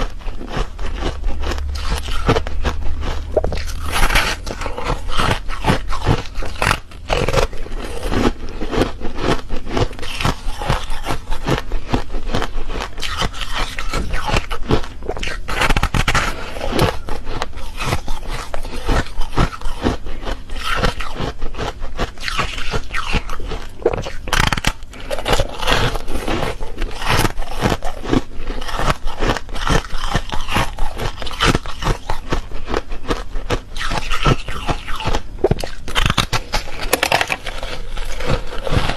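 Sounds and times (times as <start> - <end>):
ice crunching as chewed: 0.0 - 38.9.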